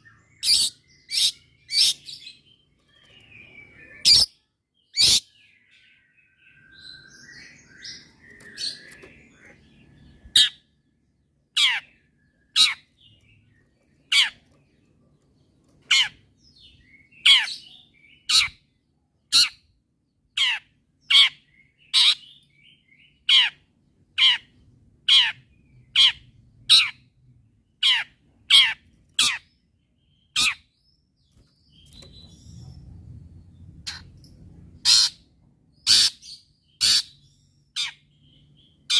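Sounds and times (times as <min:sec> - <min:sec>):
soft bird twittering: 0:00.0 - 0:38.9.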